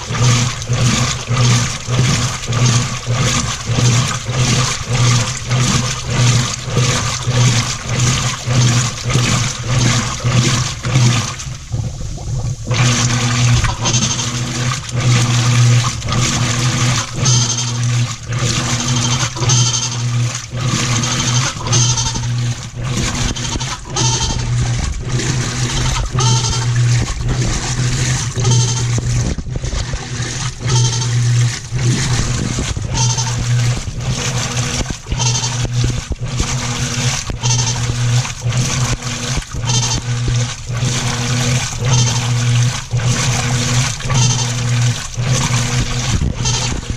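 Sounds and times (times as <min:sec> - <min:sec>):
washer motor humming: 0:00.0 - 0:46.9
water sloshing: 0:00.0 - 0:46.9.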